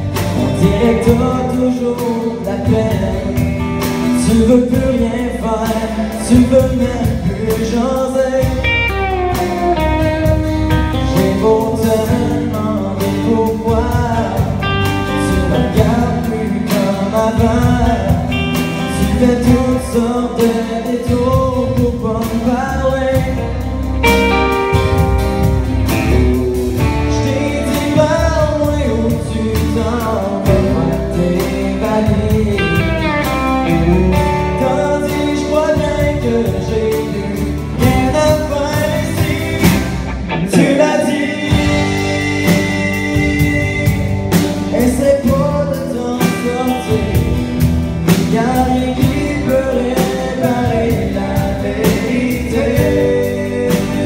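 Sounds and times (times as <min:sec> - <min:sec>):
acoustic guitar: 0:00.0 - 0:54.0
electric guitar: 0:00.0 - 0:54.0
man singing: 0:00.0 - 0:54.0.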